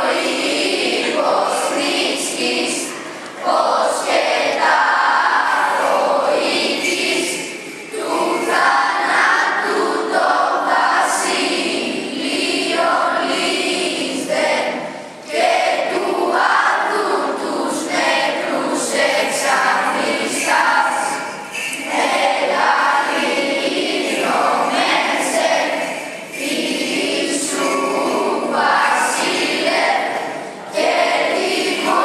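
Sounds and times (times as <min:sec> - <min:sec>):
children's choir singing a hymn: 0:00.0 - 0:32.0.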